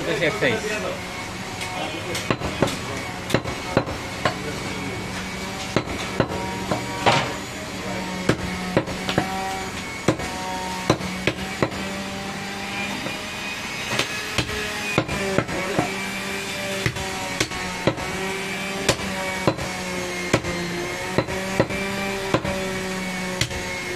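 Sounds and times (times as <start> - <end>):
cleaver chopping meat and bone: 2.1 - 4.4, 5.1 - 7.4, 8.2 - 23.9.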